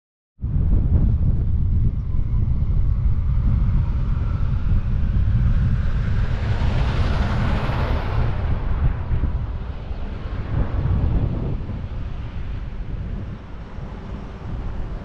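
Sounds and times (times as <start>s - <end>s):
road noise: 0.4s - 15.0s
wind buffeting microphone: 0.4s - 15.0s.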